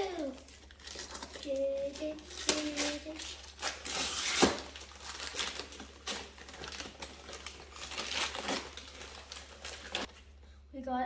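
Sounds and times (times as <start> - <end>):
wrapping paper tearing and crinkling: 0.0 - 10.3.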